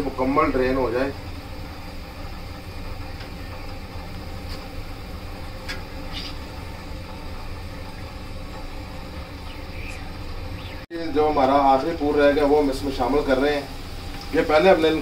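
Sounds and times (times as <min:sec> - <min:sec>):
chips deep-frying in oil: 0:00.0 - 0:15.0.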